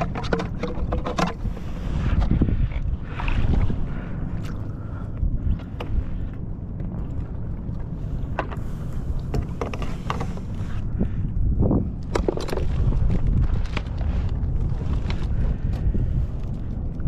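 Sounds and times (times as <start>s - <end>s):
water lapping at hull: 0.0s - 17.0s
wind buffeting microphone: 0.0s - 17.0s.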